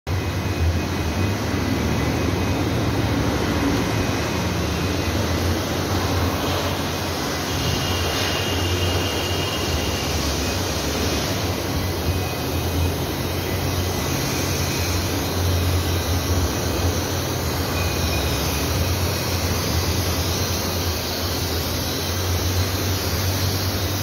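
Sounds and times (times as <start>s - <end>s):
faint high whine: 0.1s - 24.0s.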